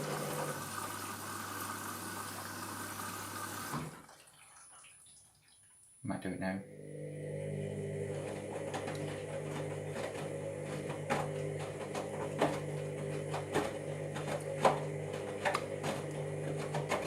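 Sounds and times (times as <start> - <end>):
washing machine motor humming: 0.0 - 4.2, 6.6 - 17.0.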